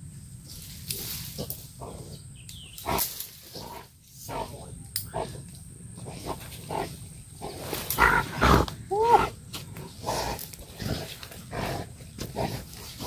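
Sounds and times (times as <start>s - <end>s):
wild hog grunting: 1.2s - 13.0s.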